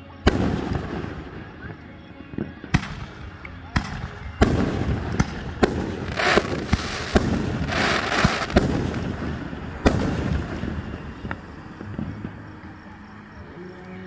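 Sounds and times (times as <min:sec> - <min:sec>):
fireworks bangs: 0:00.0 - 0:13.6
fireworks crackling: 0:00.0 - 0:14.0.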